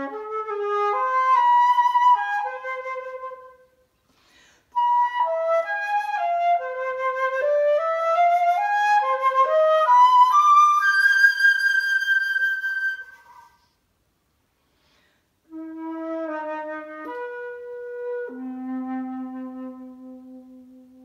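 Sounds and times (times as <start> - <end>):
solo flute: 0.0 - 3.9, 4.7 - 13.8, 15.4 - 21.0.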